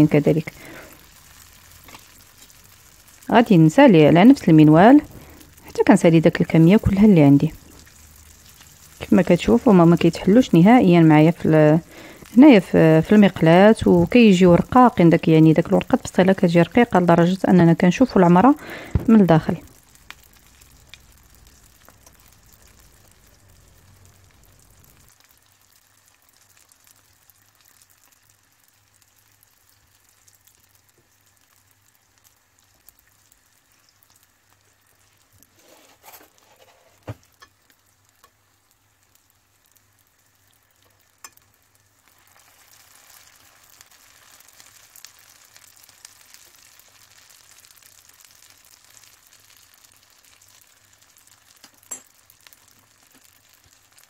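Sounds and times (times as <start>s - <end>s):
oil sizzling in a frying pan: 0.0s - 54.0s.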